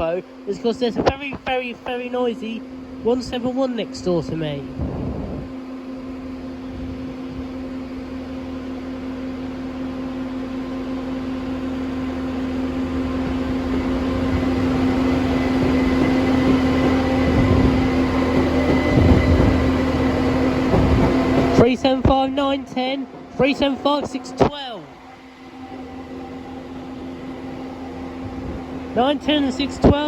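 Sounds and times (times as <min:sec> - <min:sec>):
diesel train engines droning: 0:00.0 - 0:30.0.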